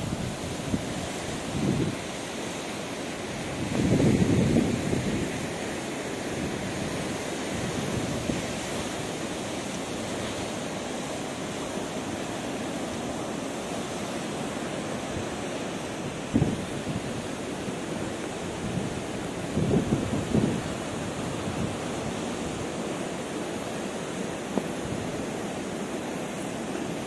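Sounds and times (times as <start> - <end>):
rough surf: 0.0 - 27.0
wind blowing across microphone: 0.0 - 27.0.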